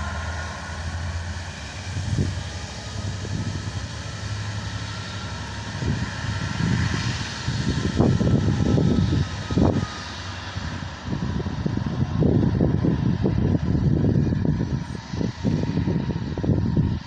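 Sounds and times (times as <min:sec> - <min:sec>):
distant locomotive engine drone: 0:00.0 - 0:17.0
wind rumble on microphone: 0:00.0 - 0:17.0.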